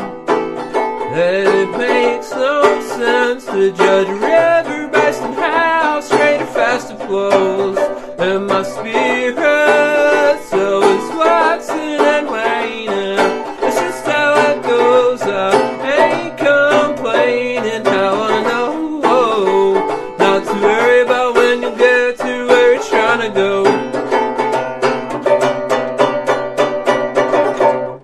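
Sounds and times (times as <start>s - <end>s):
guitar: 0.0s - 28.0s
quick banjo picking: 0.0s - 28.0s.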